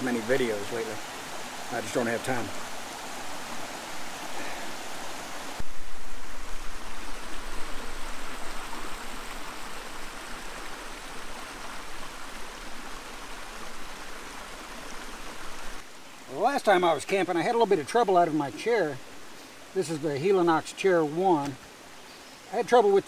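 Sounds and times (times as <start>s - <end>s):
creek water flowing: 0.0s - 23.0s.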